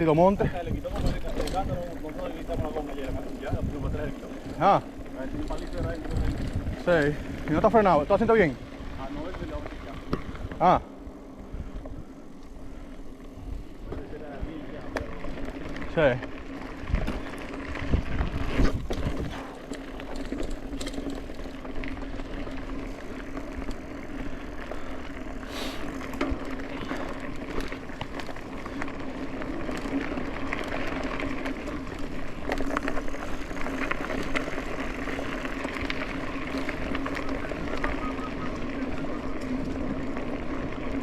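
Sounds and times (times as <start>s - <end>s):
bike rattling and knocking: 0.0s - 10.8s, 13.8s - 41.0s
bike tyres rolling on trail: 0.0s - 41.0s.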